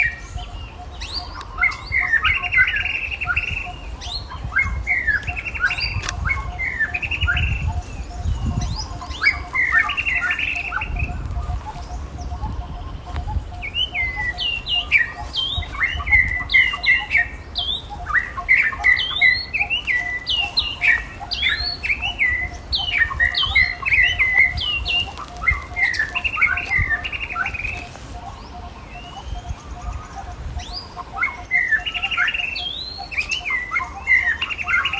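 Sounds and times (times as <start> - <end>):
high-pitched chirping and squeaking calls: 0.0 - 34.9.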